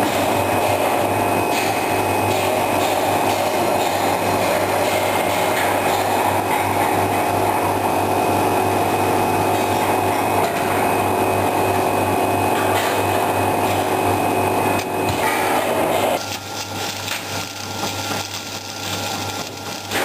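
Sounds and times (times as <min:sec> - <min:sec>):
welding machine humming: 0:00.0 - 0:20.0.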